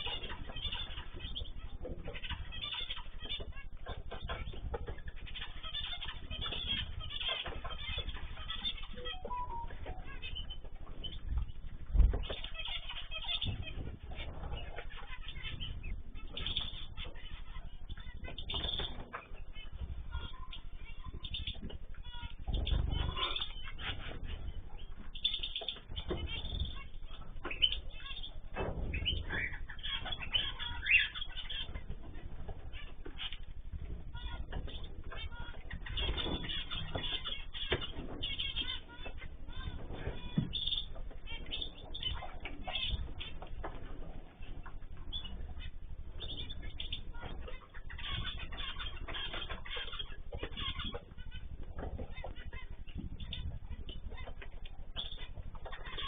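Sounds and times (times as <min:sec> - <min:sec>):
cage birds chirping: 0:00.0 - 0:56.0
loud bird calls: 0:00.0 - 0:56.0.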